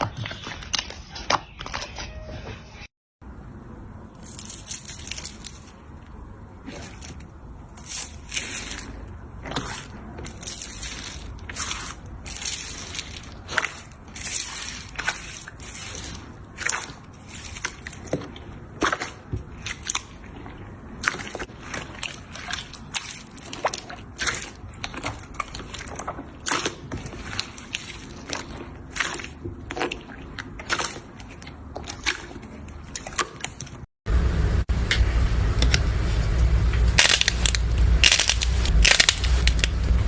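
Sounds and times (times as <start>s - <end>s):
slime squishing: 0.0s - 2.6s, 4.2s - 33.9s, 36.9s - 40.0s.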